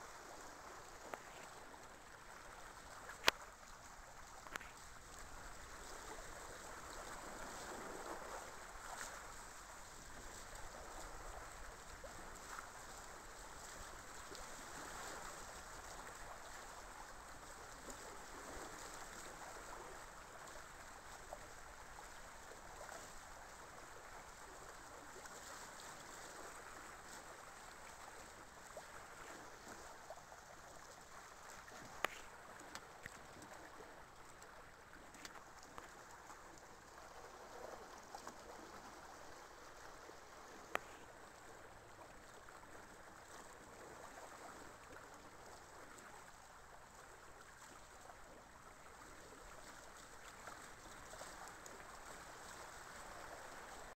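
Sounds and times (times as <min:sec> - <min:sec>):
water running along hulls: 0:00.0 - 0:53.9.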